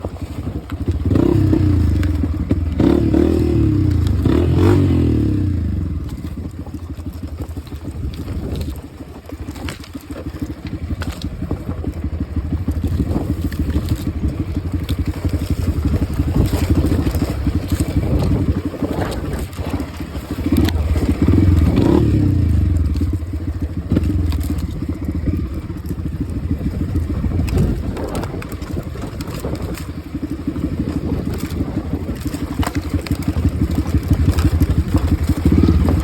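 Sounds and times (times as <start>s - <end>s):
dirt bike engine revving: 0.8s - 7.0s, 12.2s - 31.9s, 32.8s - 36.0s.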